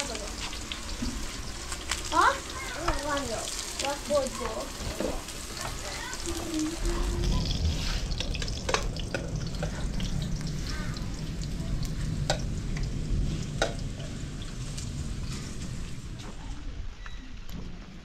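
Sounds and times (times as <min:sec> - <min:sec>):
vegetables sizzling in hot oil: 0:00.0 - 0:16.2.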